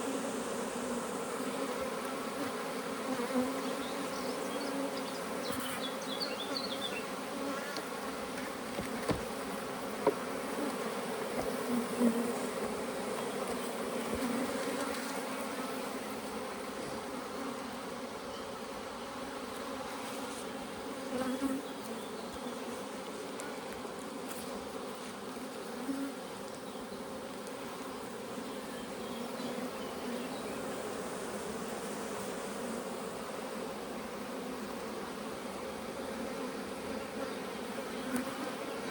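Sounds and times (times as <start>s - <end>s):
honeybees buzzing: 0.0s - 38.9s.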